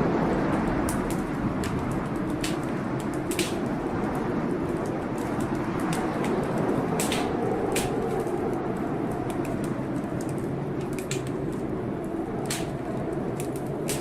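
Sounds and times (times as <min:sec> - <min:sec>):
blizzard wind howling: 0:00.0 - 0:14.0
wood fire crackling: 0:00.0 - 0:14.0.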